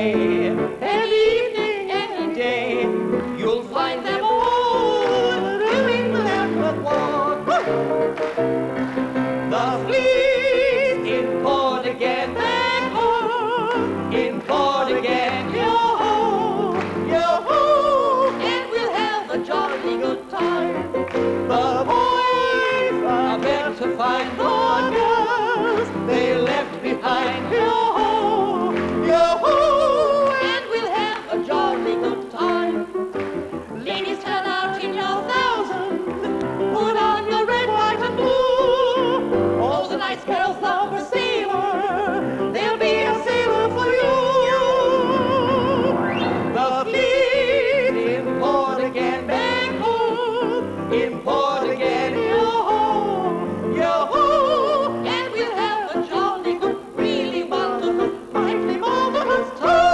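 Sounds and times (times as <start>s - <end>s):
piano: 0.0s - 59.9s.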